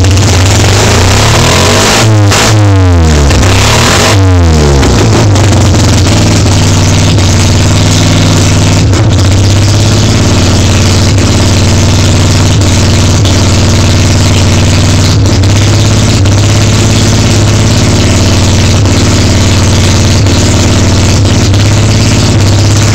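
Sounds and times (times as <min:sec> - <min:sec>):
rotary engine idling: 0:00.0 - 0:22.9.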